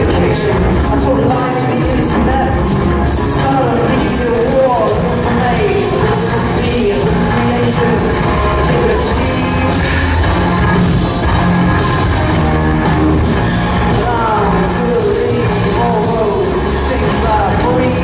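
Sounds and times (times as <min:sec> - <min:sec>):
person singing: 0:00.0 - 0:18.0
rock band playing live: 0:00.0 - 0:18.0.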